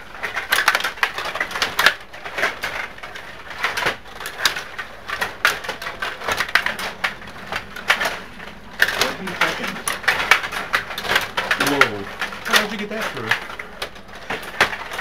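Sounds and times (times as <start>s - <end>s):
plastic players and puck clacking: 0.0s - 15.0s.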